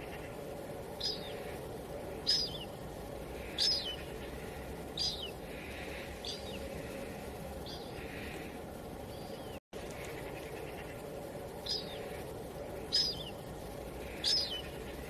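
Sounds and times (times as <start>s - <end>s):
bird chirping: 0.0s - 2.8s, 3.4s - 15.0s.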